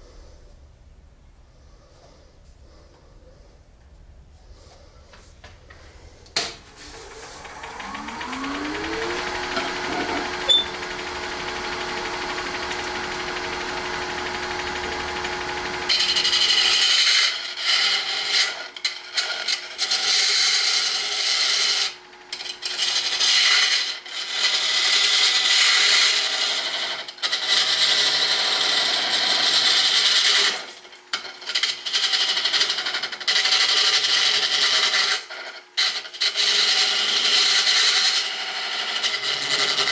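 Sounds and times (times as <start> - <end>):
gouge scraping spinning wood: 6.4 - 39.9
wood lathe whine: 6.4 - 39.9.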